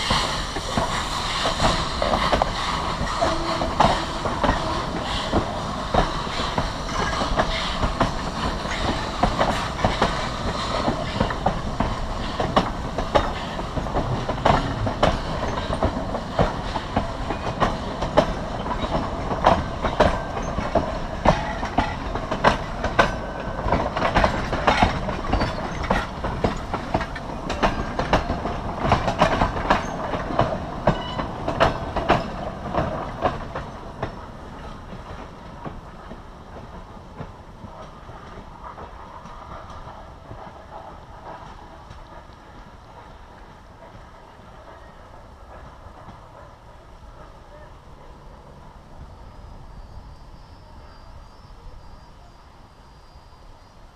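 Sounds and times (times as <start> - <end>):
train wheels clanking over rail joints: 0.0 - 47.4
train rumble: 0.0 - 53.9.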